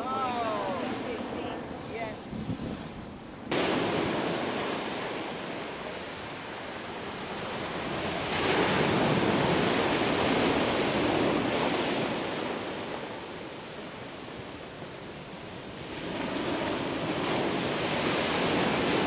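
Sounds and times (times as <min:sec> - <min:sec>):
ocean surf breaking on shore: 0:00.0 - 0:19.0.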